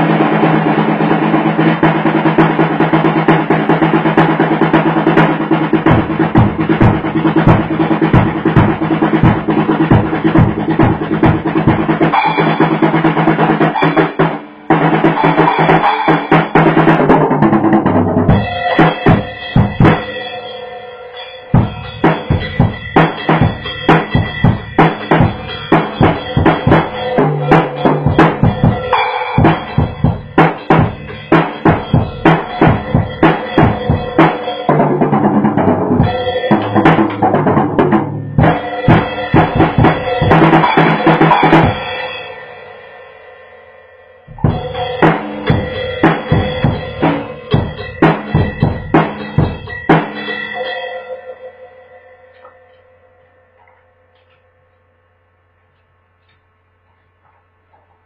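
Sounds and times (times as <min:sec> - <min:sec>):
pitched music: 0:00.0 - 0:43.1, 0:44.3 - 0:53.2
drum kit playing: 0:00.0 - 0:52.8.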